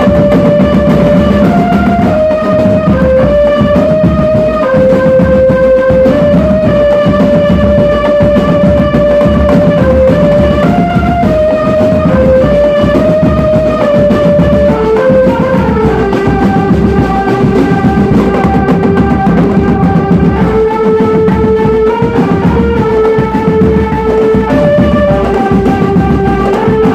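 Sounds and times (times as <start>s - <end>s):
marching drum band drumming: 0.0s - 26.9s
melody of long held notes: 0.0s - 26.9s.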